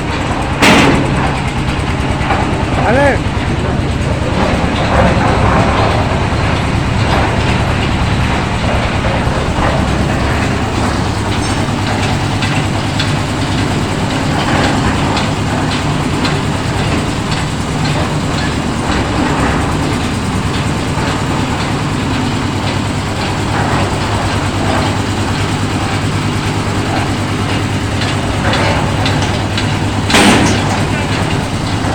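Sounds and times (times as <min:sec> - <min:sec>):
concrete mixer engine drone: 0:00.0 - 0:31.9
mixer rattling and clattering: 0:00.0 - 0:31.9.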